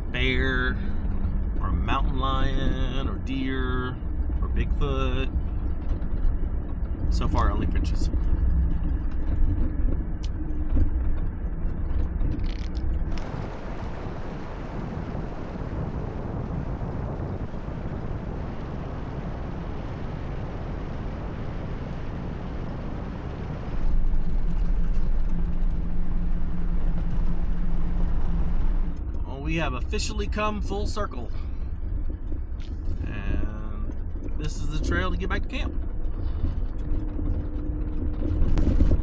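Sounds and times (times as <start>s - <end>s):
car engine hum and road noise: 0.0s - 39.0s.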